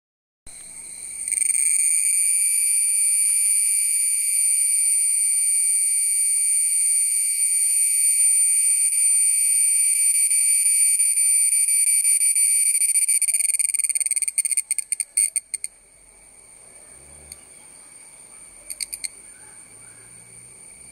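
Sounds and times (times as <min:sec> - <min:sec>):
cicada buzzing: 0:00.5 - 0:20.9.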